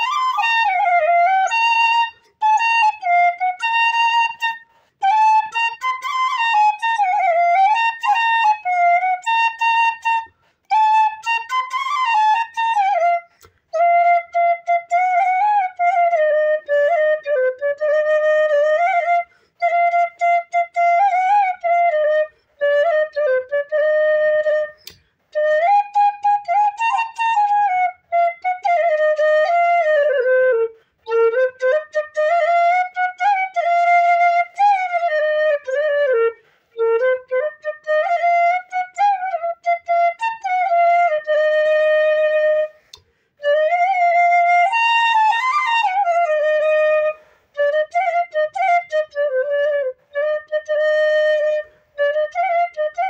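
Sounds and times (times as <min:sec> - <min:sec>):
bamboo flute melody: 0:00.0 - 0:53.0.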